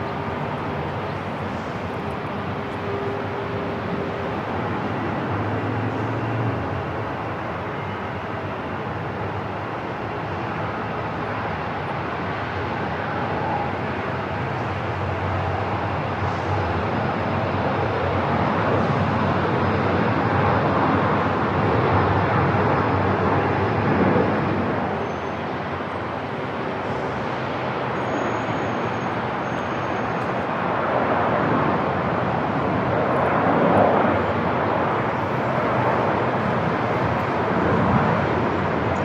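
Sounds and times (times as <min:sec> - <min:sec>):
aircraft and terminal rushing noise: 0:00.0 - 0:39.0.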